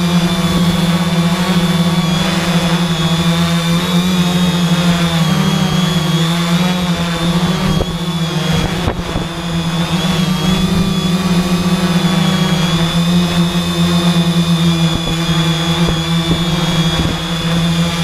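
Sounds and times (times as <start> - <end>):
drone motors humming: 0.0 - 18.0
thin high whine: 0.0 - 18.0.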